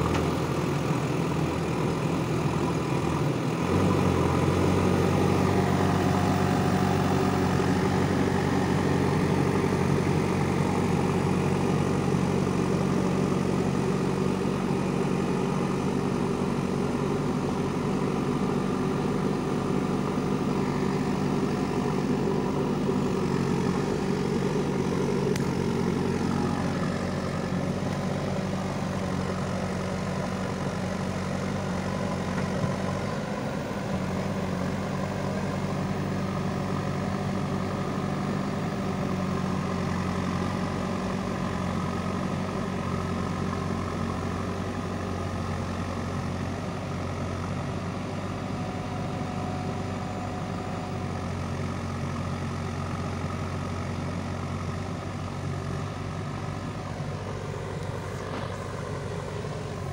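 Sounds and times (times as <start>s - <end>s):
diesel engine running at low revs: 0.0s - 59.9s.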